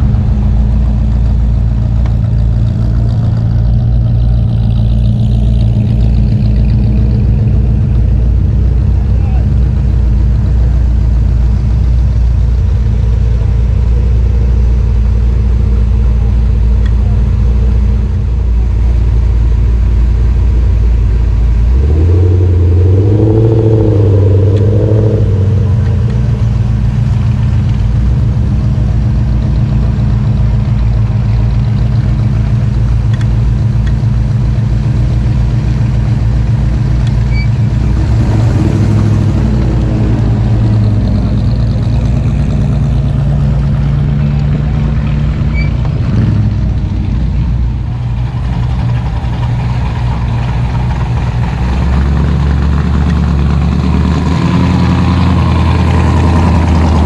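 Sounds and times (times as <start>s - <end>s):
engine revving: 0.0s - 57.0s
pickup truck engine running: 0.0s - 57.0s.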